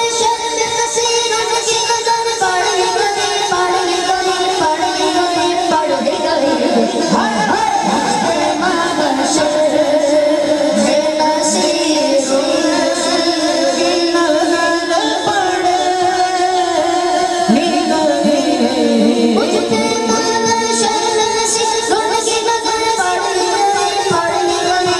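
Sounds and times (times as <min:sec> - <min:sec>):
unaccompanied voices singing over loudspeakers: 0:00.0 - 0:24.9.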